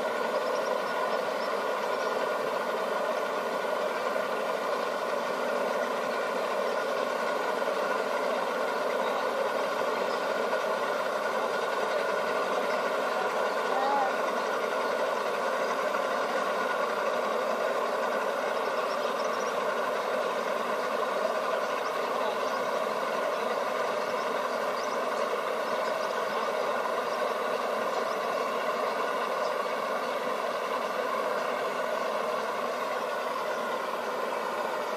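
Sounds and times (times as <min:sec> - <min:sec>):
outboard boat motors idling: 0:00.0 - 0:34.9.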